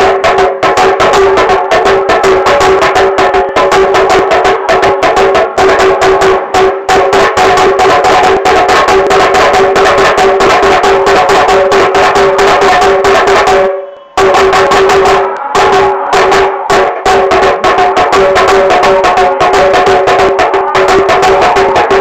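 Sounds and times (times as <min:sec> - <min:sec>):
drum roll with sticks: 0:00.0 - 0:22.0.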